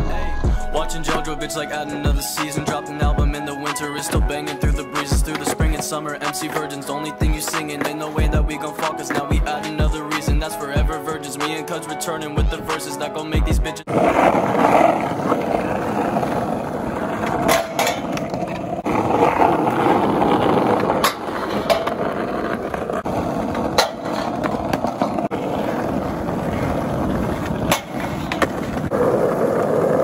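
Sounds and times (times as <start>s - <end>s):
skateboard tail clacking: 1.1s - 10.7s, 13.9s - 30.0s
skateboard wheels rolling on asphalt: 1.1s - 10.8s, 13.7s - 30.0s.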